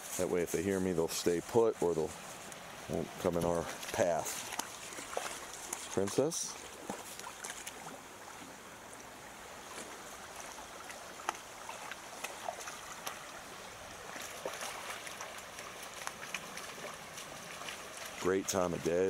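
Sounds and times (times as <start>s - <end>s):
creek trickling over rocks: 0.0s - 19.0s
dogs splashing through water: 2.2s - 8.6s, 9.6s - 19.0s.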